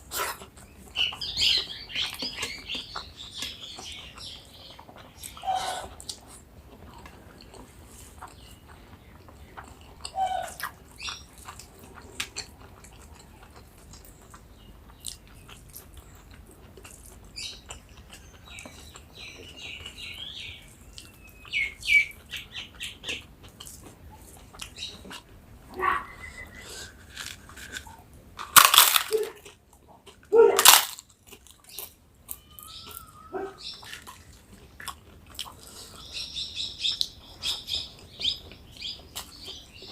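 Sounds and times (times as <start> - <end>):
person chewing crisp food: 0.0 - 39.9.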